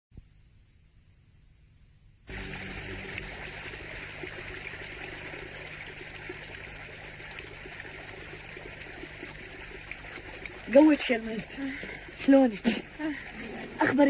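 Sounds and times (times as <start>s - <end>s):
stream babbling over stones: 2.3s - 14.0s.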